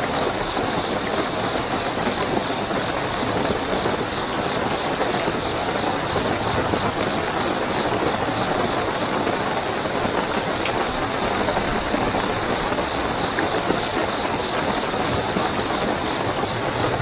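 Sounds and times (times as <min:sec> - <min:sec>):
cricket trill: 0:00.0 - 0:17.0
heavy rainfall: 0:00.0 - 0:17.0.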